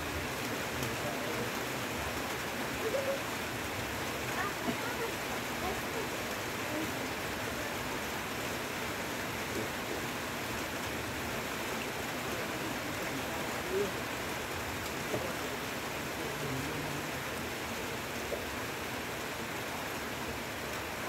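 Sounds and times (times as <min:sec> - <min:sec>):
heavy rain on leaves: 0:00.0 - 0:21.0.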